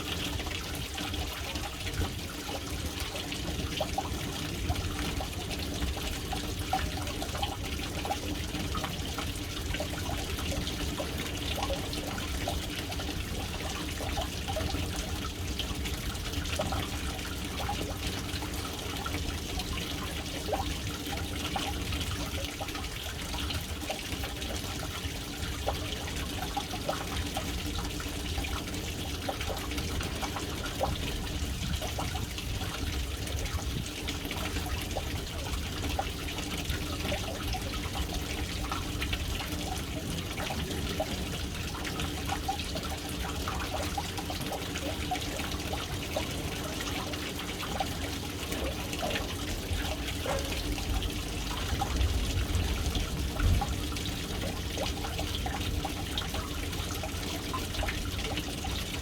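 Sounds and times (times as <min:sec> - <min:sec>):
water splashing into tank: 0:00.0 - 0:59.0.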